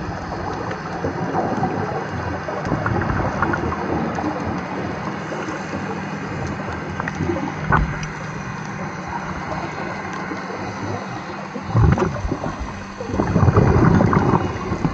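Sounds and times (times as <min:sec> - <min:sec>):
bubbling exhaled air: 0:00.0 - 0:08.2, 0:09.0 - 0:14.9
faint crackles: 0:00.0 - 0:14.9.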